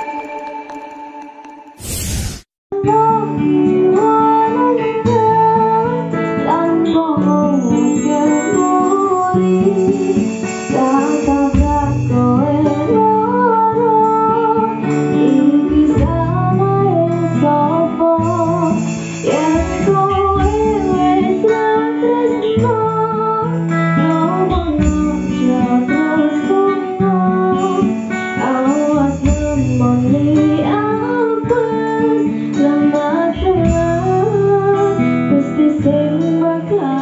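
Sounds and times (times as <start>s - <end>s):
guitar: 0.0s - 37.0s
keyboard: 0.0s - 37.0s
woman singing into a microphone: 2.7s - 37.0s.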